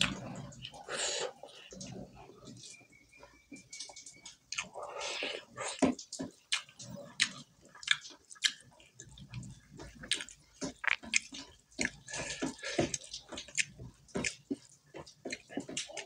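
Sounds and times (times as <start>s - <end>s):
wet chewing with lip smacks: 0.0s - 16.0s.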